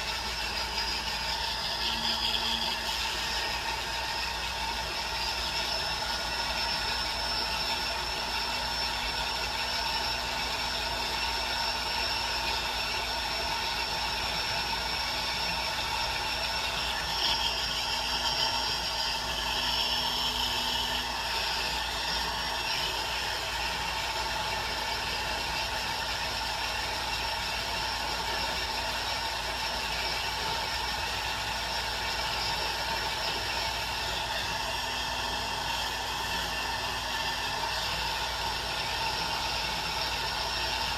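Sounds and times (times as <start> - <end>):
rotary tool motor whirring: 0.0 - 40.9.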